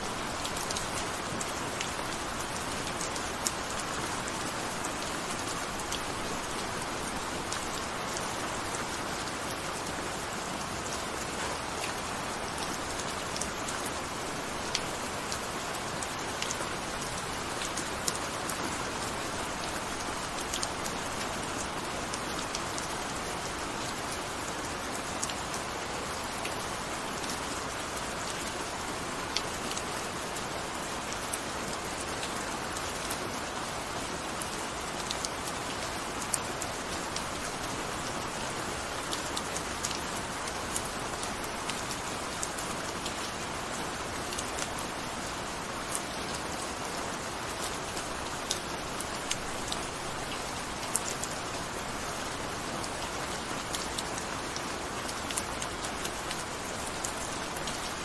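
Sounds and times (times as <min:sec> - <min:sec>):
gentle rain patter: 0:00.0 - 0:58.0.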